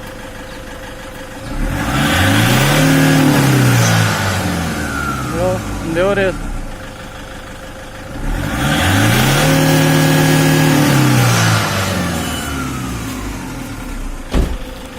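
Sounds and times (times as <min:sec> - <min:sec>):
car engine revving: 0:01.4 - 0:14.9.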